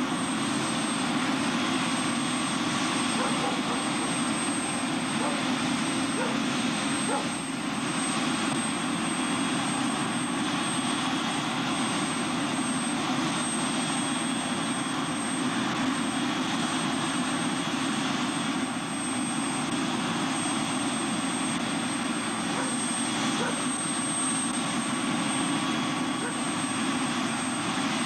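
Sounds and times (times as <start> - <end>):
helicopter rotor rumble: 0.0 - 28.0.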